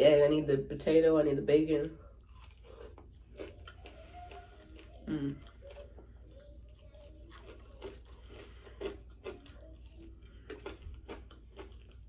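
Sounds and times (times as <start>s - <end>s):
person chewing and biting food: 2.2s - 12.0s.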